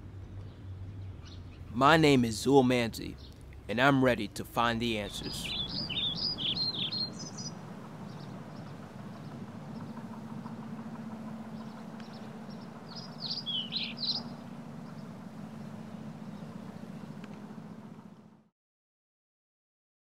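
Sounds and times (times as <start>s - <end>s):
low outdoor hum: 0.0s - 18.5s
songbird chirping: 0.1s - 18.4s.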